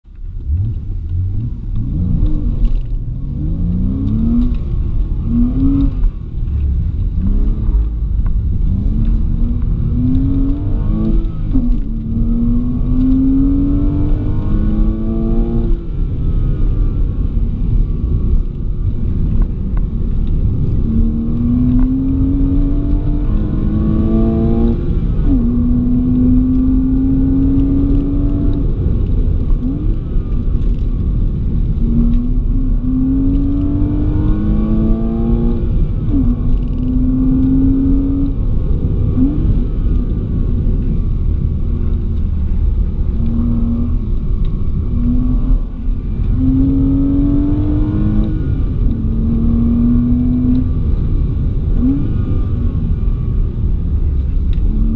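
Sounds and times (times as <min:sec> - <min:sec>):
road and wind rumble: 0:00.0 - 0:54.9
car engine accelerating: 0:00.1 - 0:54.9.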